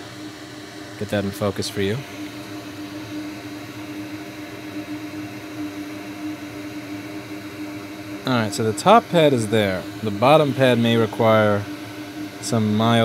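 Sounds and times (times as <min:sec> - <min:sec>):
extractor fan running: 0:00.0 - 0:13.0.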